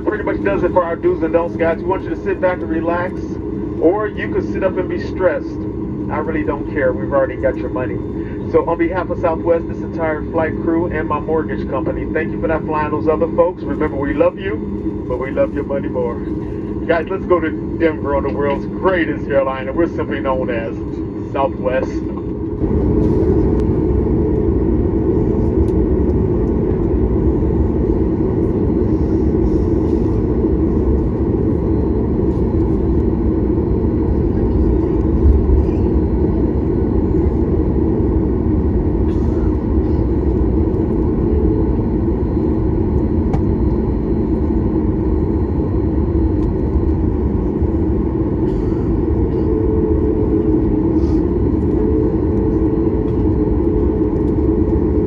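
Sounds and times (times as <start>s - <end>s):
jet engines deep rumble: 0.0s - 55.0s.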